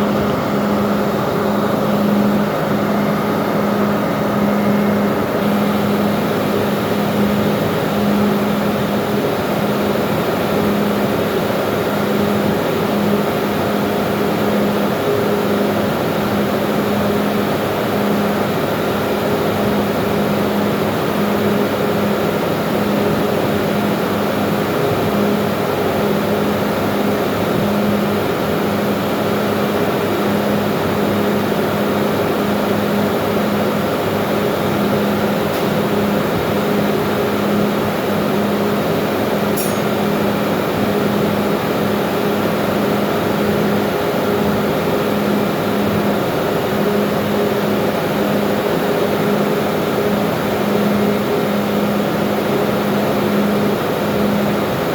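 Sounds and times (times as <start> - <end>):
engine-room machinery drone: 0.0 - 54.9.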